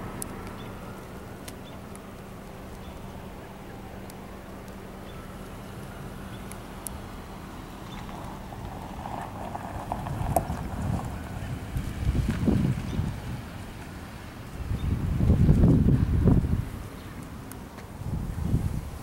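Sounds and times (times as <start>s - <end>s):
low engine hum: 0.0s - 19.0s
traffic noise: 0.0s - 19.0s.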